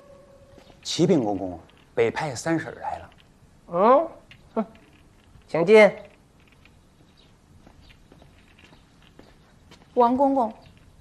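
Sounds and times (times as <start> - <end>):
soft footsteps: 0.4 - 3.6, 4.2 - 11.0.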